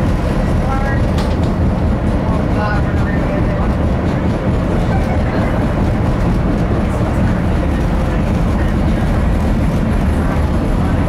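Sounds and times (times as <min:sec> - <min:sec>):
train rumbling into station: 0:00.0 - 0:11.0.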